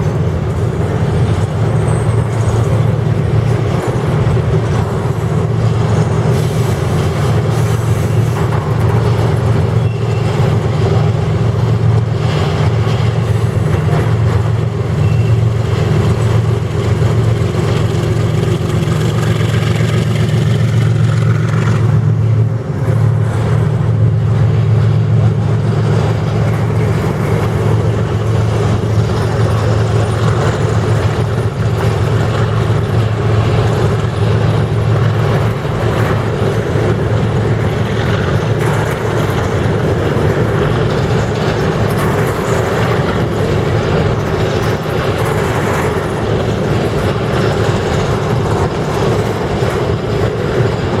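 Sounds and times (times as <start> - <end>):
diesel locomotive engine drone: 0.0 - 51.0
rail noise: 0.0 - 51.0.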